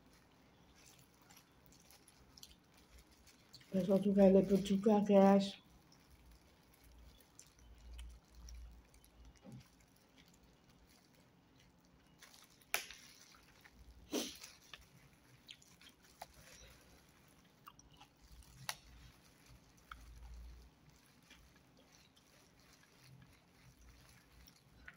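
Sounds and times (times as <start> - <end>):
quiet chewing: 0.0 - 24.9.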